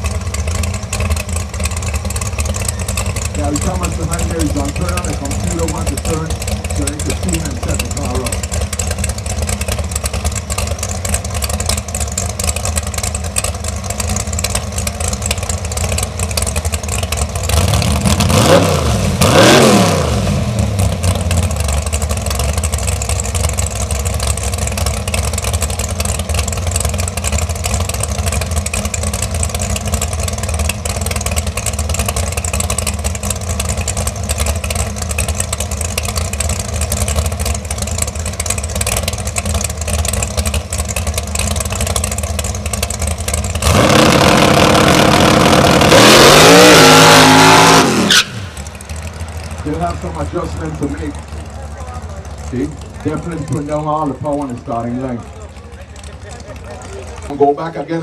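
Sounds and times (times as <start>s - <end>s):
dragster engine idling and revving: 0.0s - 58.0s.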